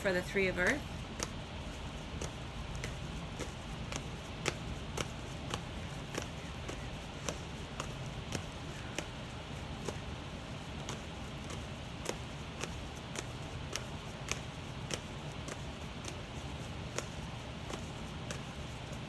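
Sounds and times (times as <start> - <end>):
steady low hum: 0.0 - 19.0
cards being shuffled: 0.6 - 19.0.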